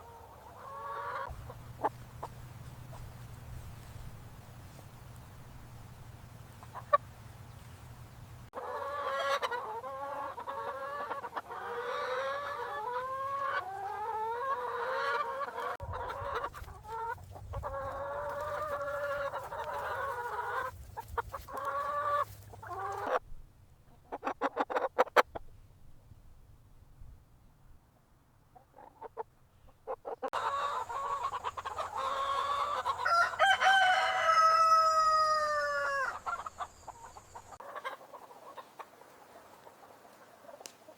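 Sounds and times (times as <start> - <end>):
chickens calling: 0.0 - 23.2, 28.6 - 40.9
chickens clucking: 0.0 - 23.2, 23.9 - 25.5, 28.6 - 40.9.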